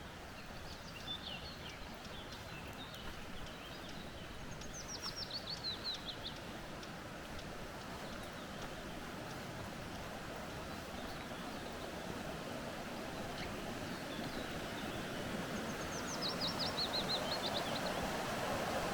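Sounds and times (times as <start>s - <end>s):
creek water flowing: 0.0s - 18.9s
small birds singing: 0.0s - 18.9s.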